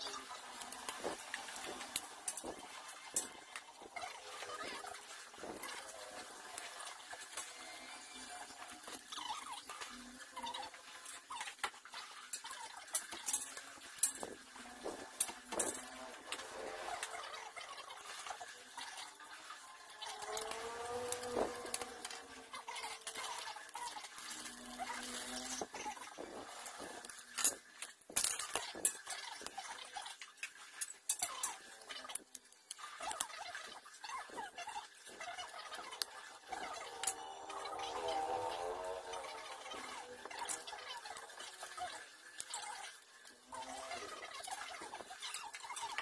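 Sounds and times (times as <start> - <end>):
model parts clicking on glass: 8.3 - 46.0.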